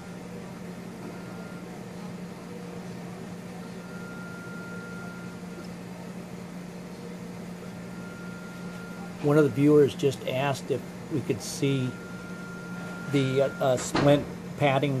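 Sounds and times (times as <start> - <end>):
room hum of equipment: 0.0 - 15.0.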